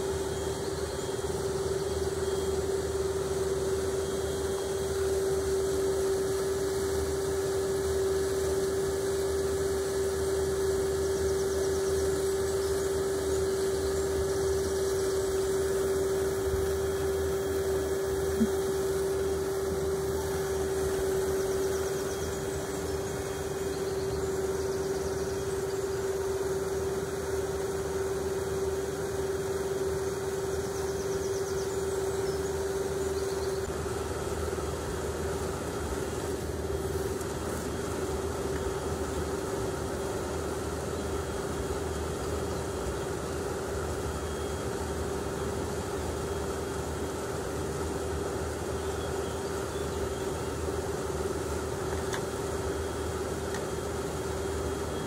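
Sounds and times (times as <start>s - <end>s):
even hiss: 0.0s - 55.0s
turbine humming with whine: 0.0s - 55.0s.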